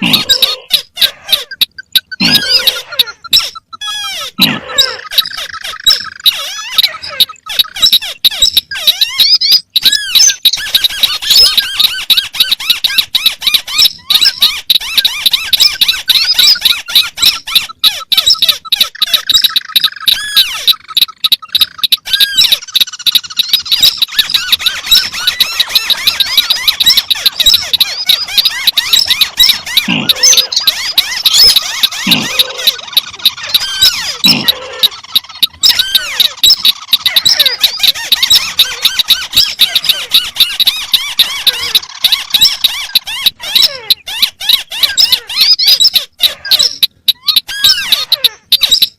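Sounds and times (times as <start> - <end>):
crakes chirping and trilling: 0.0 - 48.9.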